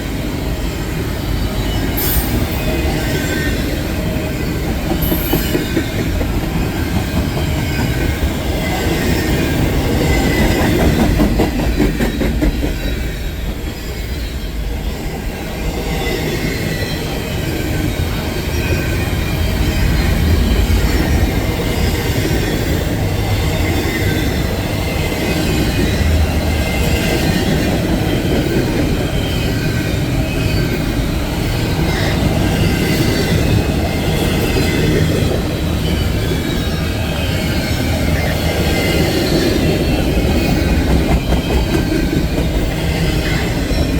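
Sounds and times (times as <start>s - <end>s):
train cars rolling on rails: 0.0s - 43.9s.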